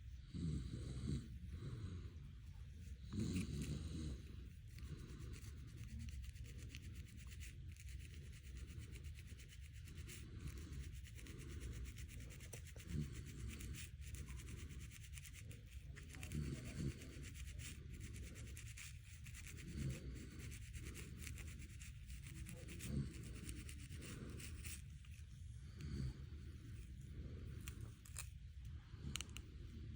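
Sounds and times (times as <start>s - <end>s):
fingernails scratching scalp: 3.1s - 28.4s.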